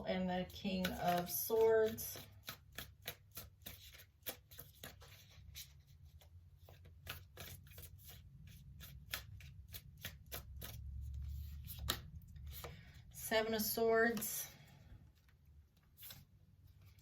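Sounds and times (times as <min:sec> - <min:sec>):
playing cards shuffling: 0:00.6 - 0:12.9, 0:15.2 - 0:17.0.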